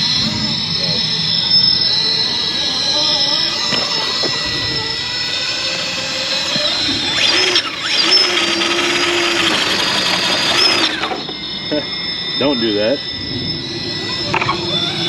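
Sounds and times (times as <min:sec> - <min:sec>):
rc truck motor whining: 0:00.0 - 0:15.0.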